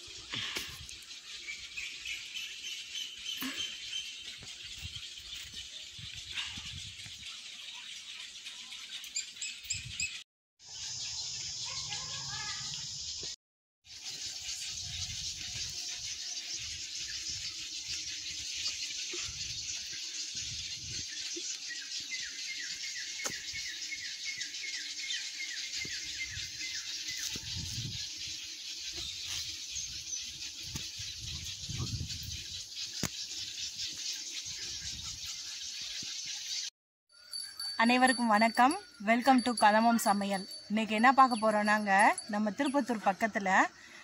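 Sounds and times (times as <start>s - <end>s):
many birds chirping: 0.0s - 44.0s.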